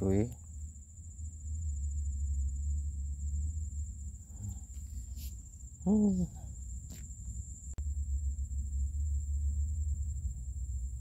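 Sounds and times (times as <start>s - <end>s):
insects droning: 0.0s - 11.0s
low rumble: 0.0s - 11.0s.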